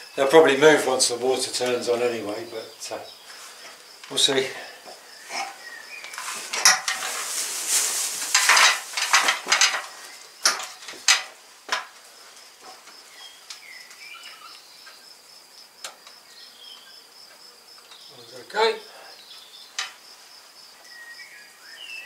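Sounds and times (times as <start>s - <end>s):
insect trill: 0.0s - 22.0s
crackling and rustling: 0.6s - 18.0s, 19.6s - 20.5s.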